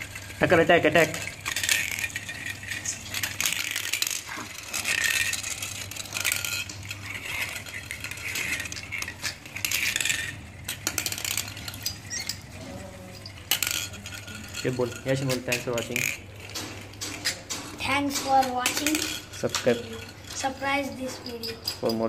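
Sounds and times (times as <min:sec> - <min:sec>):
spinning tops whirring on stone: 0:00.0 - 0:22.0
tops clicking and clattering: 0:00.0 - 0:22.0.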